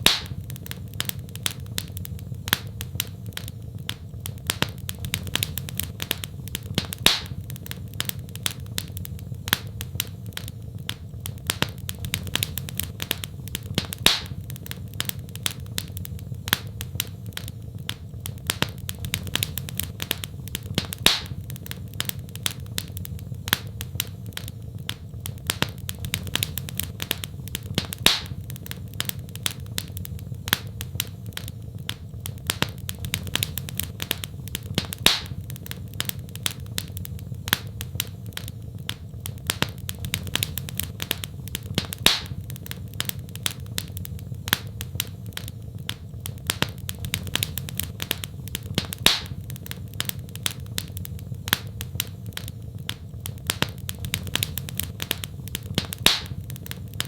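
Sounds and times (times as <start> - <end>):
fire popping: 0.0 - 57.0
low rumble of flames: 0.0 - 57.0
wood fire crackling: 0.0 - 57.0.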